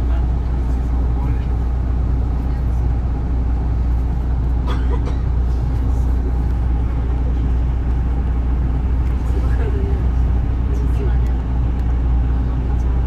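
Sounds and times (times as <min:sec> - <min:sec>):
bus diesel engine hum: 0:00.0 - 0:13.0.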